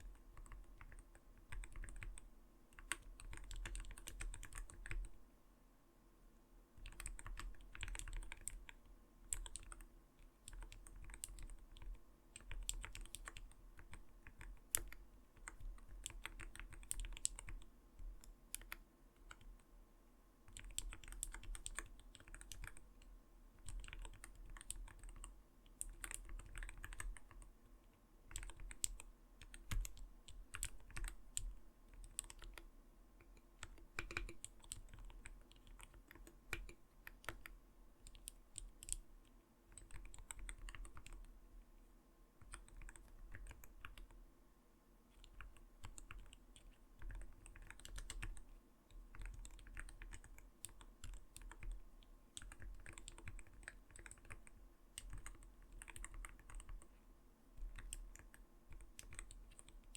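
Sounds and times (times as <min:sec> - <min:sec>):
muted mechanical keyboard typing: 0:00.0 - 0:05.2, 0:06.8 - 0:19.7, 0:20.4 - 0:27.6, 0:28.2 - 0:41.4, 0:42.4 - 0:44.2, 0:45.1 - 0:57.0, 0:57.6 - 0:59.9.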